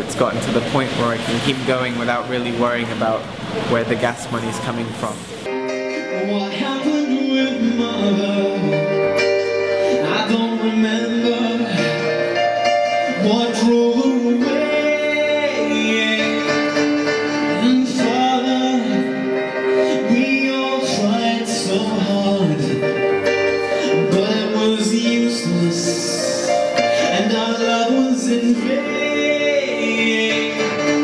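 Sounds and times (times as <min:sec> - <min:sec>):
electronic keyboard chords: 0:00.0 - 0:31.0
man singing long held notes: 0:05.7 - 0:31.0.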